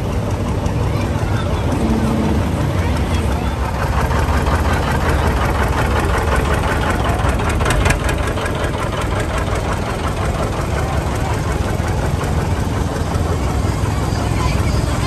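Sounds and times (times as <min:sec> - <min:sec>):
tractor engine running past: 0:00.0 - 0:15.0.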